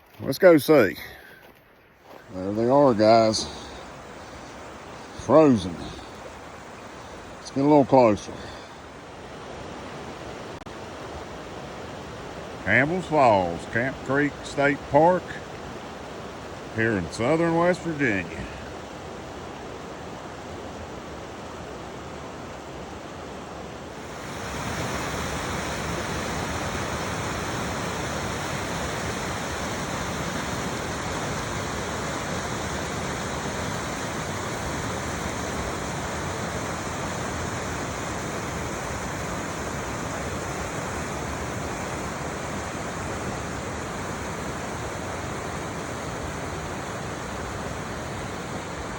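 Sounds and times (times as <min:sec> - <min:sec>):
waterfall rushing: 0:02.1 - 0:19.9, 0:23.7 - 0:48.9.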